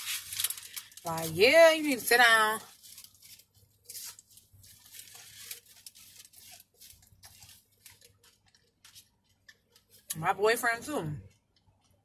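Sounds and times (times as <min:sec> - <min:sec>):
crunchy taco shell chewing: 0:00.0 - 0:01.4, 0:02.6 - 0:10.2, 0:11.2 - 0:12.0
paper wrapper rustling: 0:00.0 - 0:10.0.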